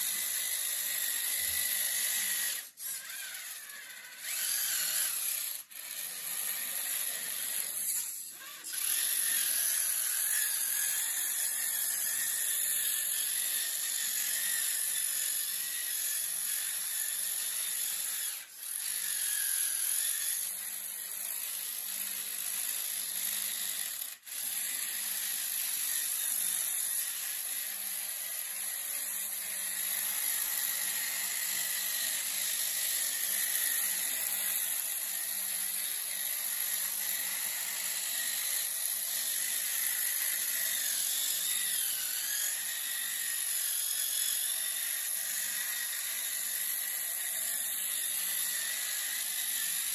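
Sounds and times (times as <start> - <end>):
power tool whining: 0.0 - 49.9.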